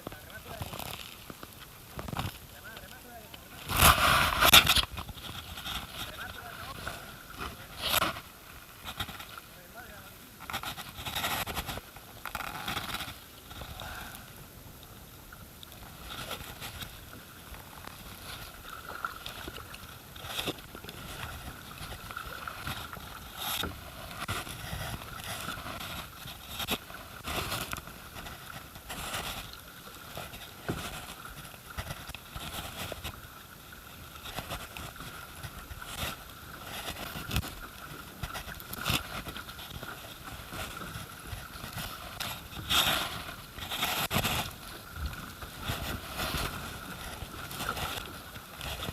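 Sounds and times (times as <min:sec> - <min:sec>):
paddle blades dipping in water: 0:00.0 - 0:48.9
water sloshing against hull: 0:00.0 - 0:48.9.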